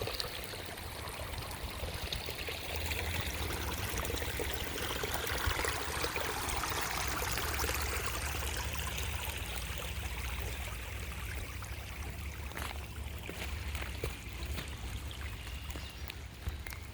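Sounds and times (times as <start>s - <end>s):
creek water splashing: 0.0s - 16.9s.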